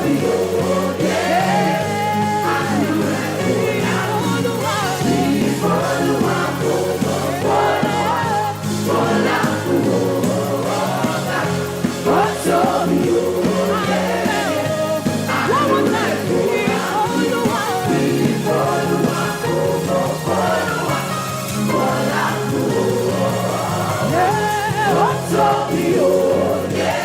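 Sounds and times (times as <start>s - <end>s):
voices singing gospel: 0.0s - 27.0s.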